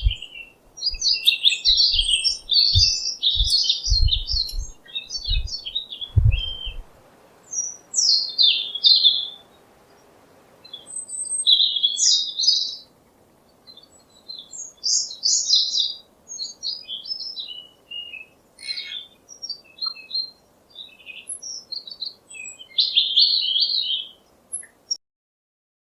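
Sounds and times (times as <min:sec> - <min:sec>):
songbirds chirping and twittering: 0:00.0 - 0:25.0.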